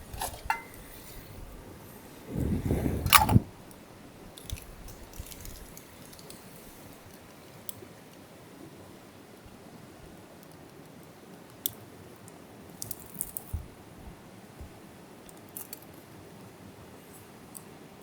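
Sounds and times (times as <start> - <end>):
steady low hiss: 0.0 - 18.0.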